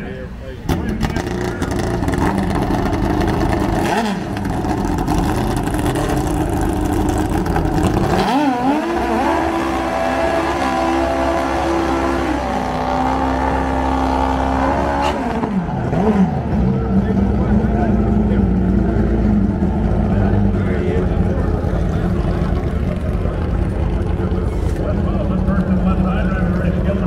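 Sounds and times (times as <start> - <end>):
motorcycle engines running: 0.0 - 27.0
motorcycle engine revving: 0.7 - 27.0.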